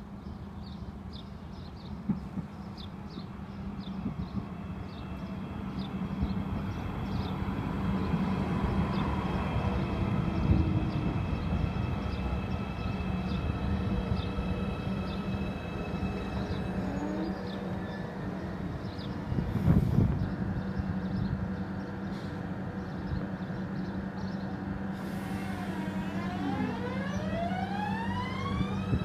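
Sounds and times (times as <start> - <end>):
electric train hum and whine: 2.4 - 29.0.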